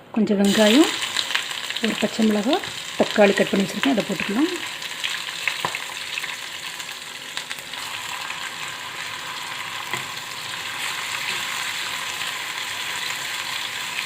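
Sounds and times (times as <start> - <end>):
vegetables sizzling in hot oil: 0.4 - 14.0.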